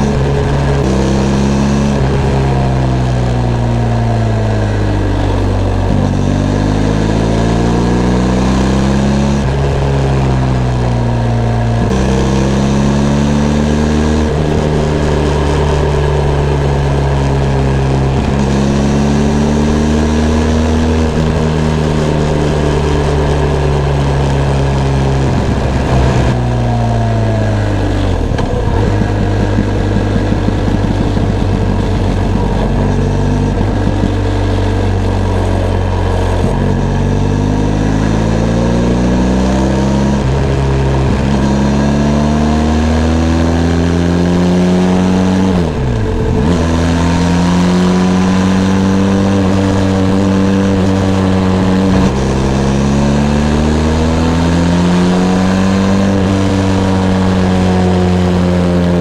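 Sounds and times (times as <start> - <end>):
exhaust crackles: 0.0 - 59.0
motorcycle engine revving: 0.0 - 59.0.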